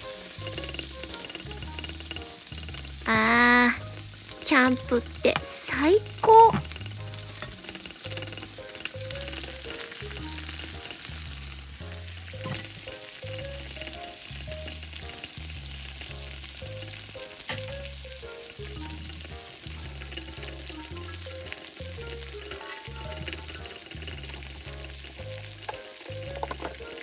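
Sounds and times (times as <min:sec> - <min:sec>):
background music with bass line: 0:00.0 - 0:27.0
meat sizzling as it fries: 0:00.0 - 0:27.0.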